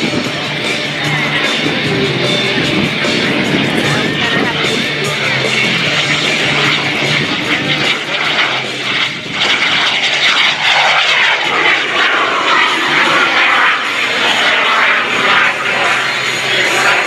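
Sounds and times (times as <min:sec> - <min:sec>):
jet engine passing overhead: 0:00.0 - 0:17.0.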